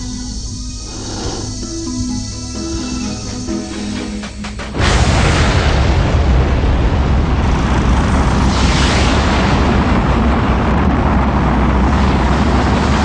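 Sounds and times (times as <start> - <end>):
rocket motors roaring: 0.0 - 13.0.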